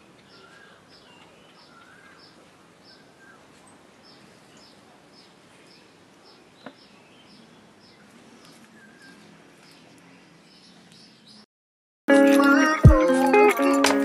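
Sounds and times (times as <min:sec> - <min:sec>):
bird chirping: 0:00.0 - 0:11.5.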